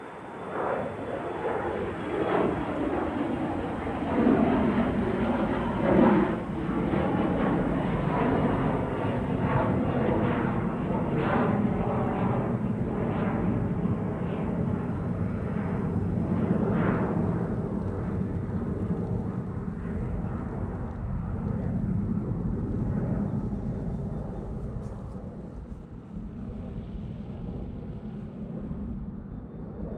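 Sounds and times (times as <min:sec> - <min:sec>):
jet engines at takeoff power: 0:00.0 - 0:29.9.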